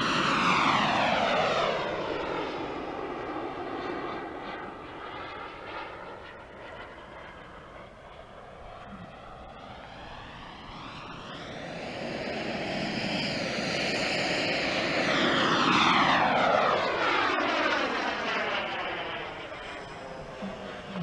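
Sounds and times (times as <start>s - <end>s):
model jet engine flying past: 0.0s - 21.0s.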